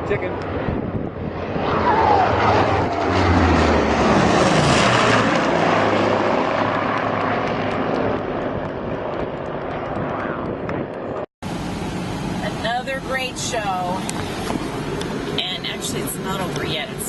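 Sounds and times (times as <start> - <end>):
propeller aircraft passing: 0.0 - 17.0.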